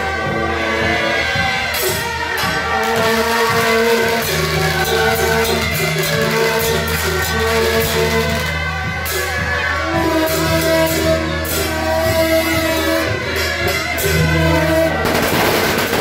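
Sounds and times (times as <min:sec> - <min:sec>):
clashing percussion strikes: 0:00.0 - 0:16.0
held wind instrument notes: 0:00.0 - 0:16.0.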